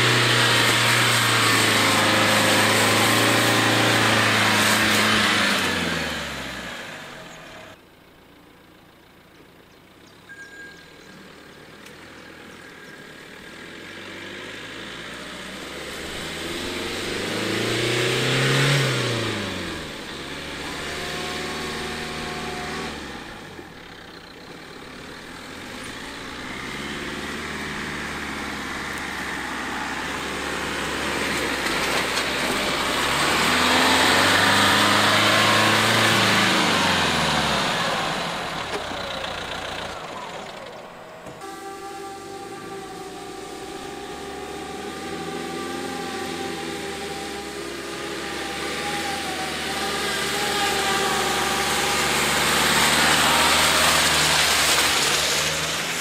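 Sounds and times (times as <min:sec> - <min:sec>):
car engine driving off-road: 0:00.0 - 0:56.0.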